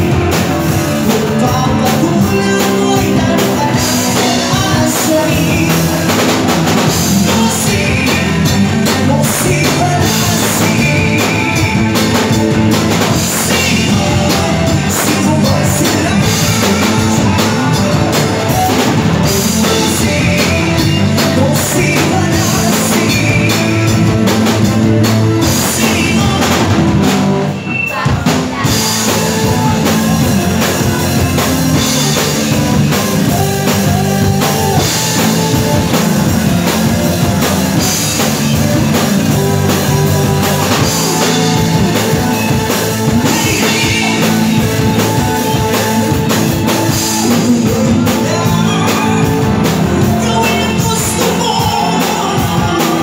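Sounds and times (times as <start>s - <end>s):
drum kit: 0.0s - 53.0s
electric guitars: 0.0s - 53.0s
lead singer: 0.0s - 53.0s.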